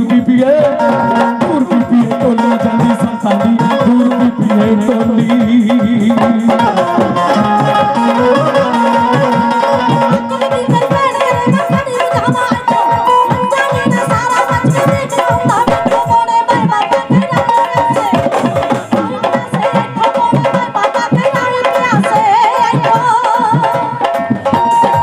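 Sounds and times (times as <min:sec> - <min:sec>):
hand drums playing a quick beat: 0:00.0 - 0:25.0
keyboard and plucked strings melody: 0:00.0 - 0:25.0.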